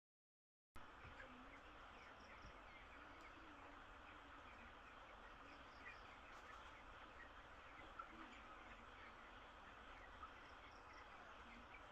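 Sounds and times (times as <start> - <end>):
chicks peeping: 0.8 - 11.9.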